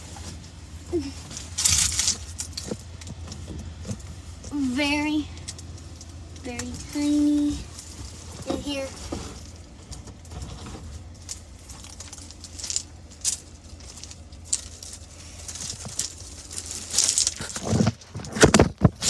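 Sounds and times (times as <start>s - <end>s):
knocks clicks and rustles: 0.0s - 19.0s
steady low hum: 0.0s - 19.0s.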